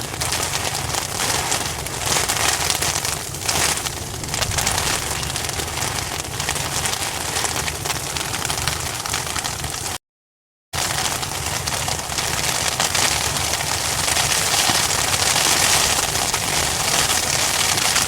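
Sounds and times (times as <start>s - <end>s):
hail and rain pelting: 0.0s - 10.0s, 10.8s - 18.0s.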